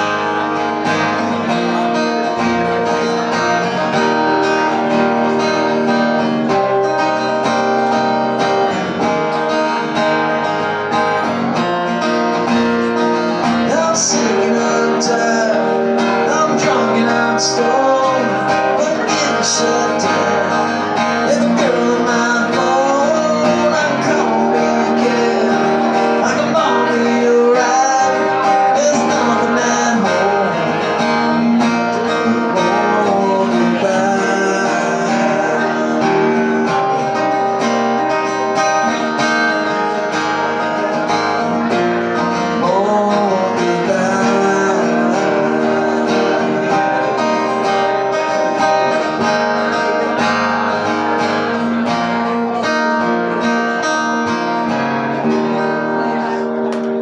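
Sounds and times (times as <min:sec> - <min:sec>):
acoustic guitar strummed and picked: 0:00.0 - 0:57.0.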